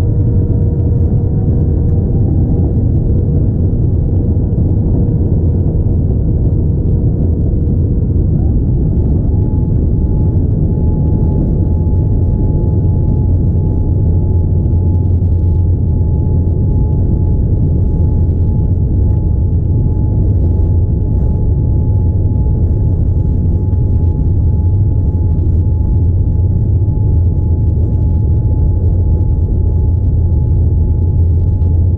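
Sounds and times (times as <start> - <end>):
aircraft cabin engine rumble: 0.0 - 31.9
thin rising whine: 0.0 - 31.9.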